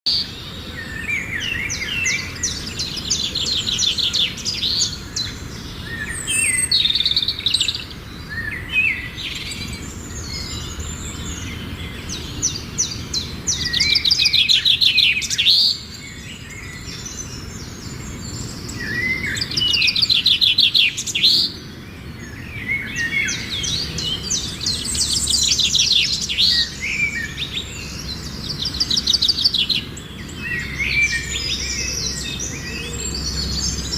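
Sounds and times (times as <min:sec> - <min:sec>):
songbird trilling: 0:00.1 - 0:33.9.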